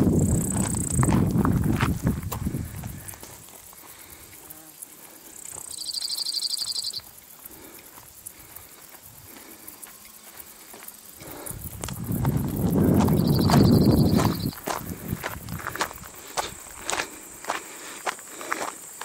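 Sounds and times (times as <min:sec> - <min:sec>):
insect buzzing trill: 0:00.0 - 0:17.4.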